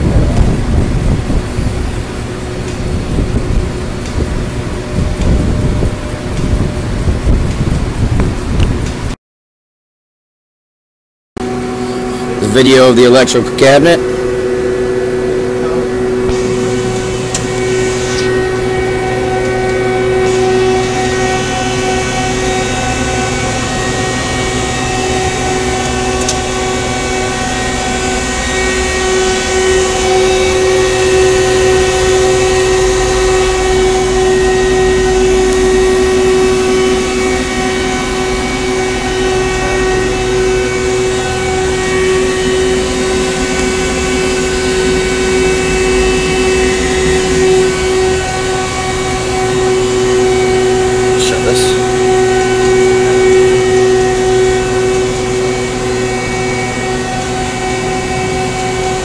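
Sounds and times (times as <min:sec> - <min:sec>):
lathe humming with whine: 0:00.0 - 0:09.1, 0:11.4 - 0:59.0.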